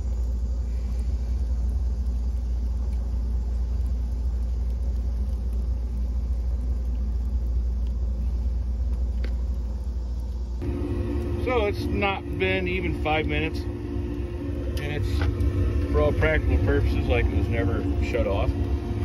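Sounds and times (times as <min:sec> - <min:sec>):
wood furnace rumbling: 0:00.0 - 0:19.0.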